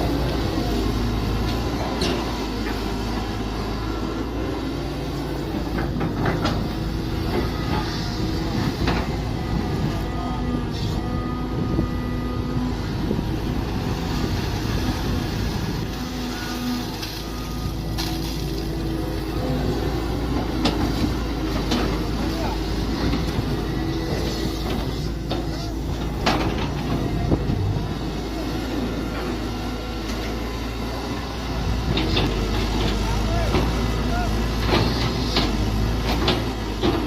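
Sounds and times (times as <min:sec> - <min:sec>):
excavator engine running: 0:00.0 - 0:37.0.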